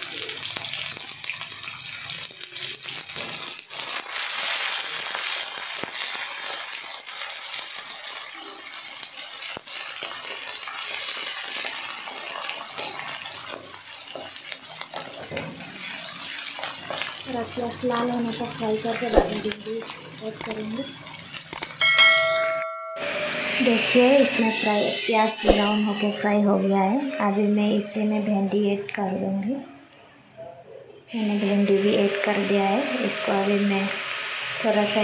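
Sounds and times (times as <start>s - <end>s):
onions sizzling in oil: 0.0s - 26.4s, 31.2s - 35.0s.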